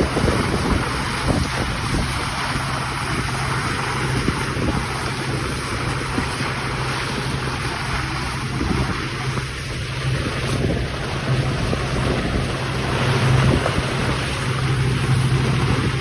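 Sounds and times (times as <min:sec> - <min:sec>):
low hum: 0:00.0 - 0:16.0
wind buffeting microphone: 0:00.0 - 0:16.0.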